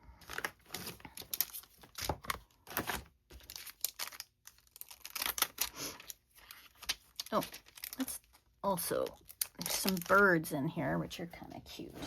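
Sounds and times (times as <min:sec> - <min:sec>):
paper rustling and crinkling: 0:00.1 - 0:10.4.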